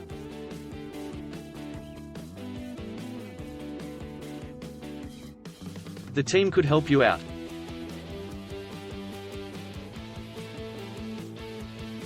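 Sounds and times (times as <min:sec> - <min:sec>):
guitar instrumental music: 0:00.0 - 0:12.0.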